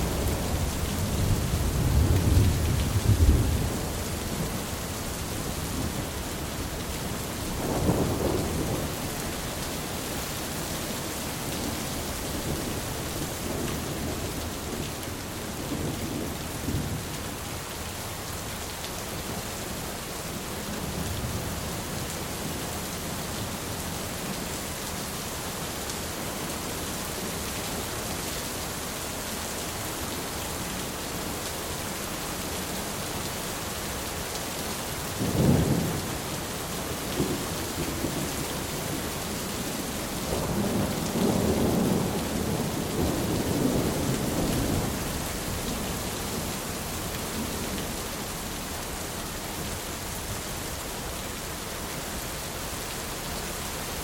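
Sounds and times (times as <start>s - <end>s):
heavy rain hissing: 0.0s - 18.3s, 26.5s - 54.0s.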